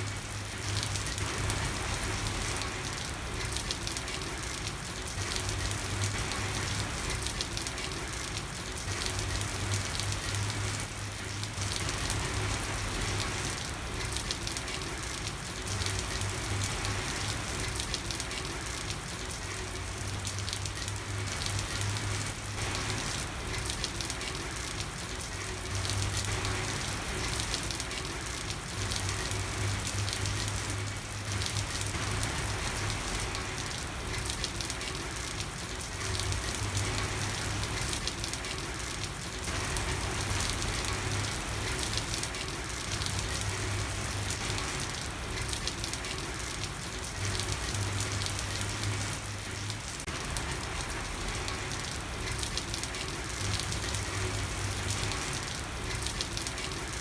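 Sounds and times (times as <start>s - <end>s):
rain falling on a street: 0.0s - 57.0s.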